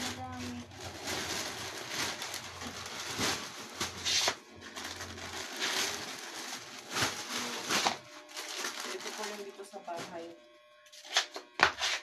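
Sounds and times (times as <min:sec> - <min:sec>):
plastic wrapping crinkling: 0:00.0 - 0:10.3.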